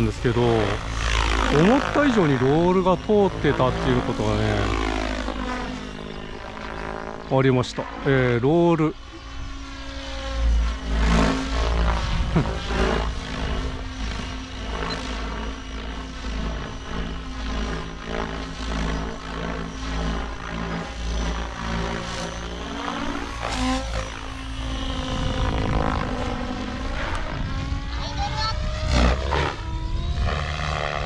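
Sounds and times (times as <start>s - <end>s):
model helicopter rotor whine: 0.0s - 31.0s.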